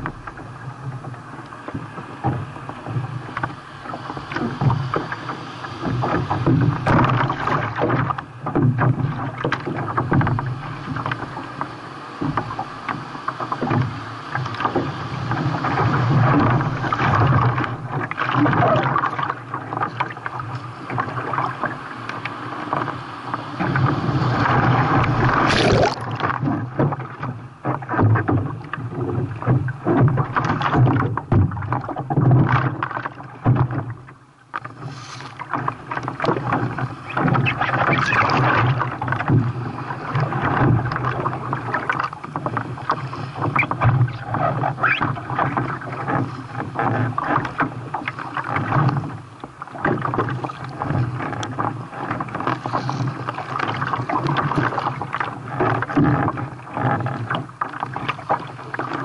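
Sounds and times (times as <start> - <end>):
paddle stroke splashes: 0.0 - 59.0
seawater rushing and splashing: 0.0 - 59.0.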